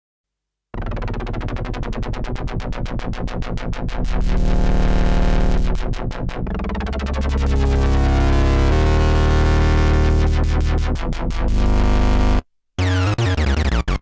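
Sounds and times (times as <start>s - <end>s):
steady synth bass: 0.8s - 14.0s
synthesizer rapid repeated notes: 0.8s - 14.0s.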